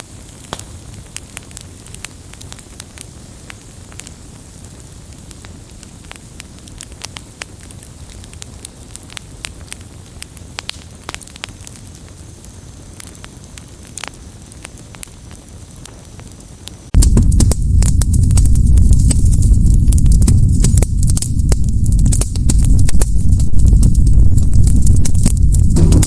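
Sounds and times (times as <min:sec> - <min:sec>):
firewood crackling and popping: 0:00.0 - 0:26.0
flames rumbling and hissing: 0:00.0 - 0:26.0.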